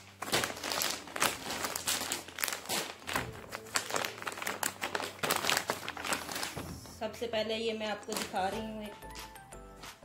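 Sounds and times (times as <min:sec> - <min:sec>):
plastic bags crinkling: 0:00.0 - 0:09.3.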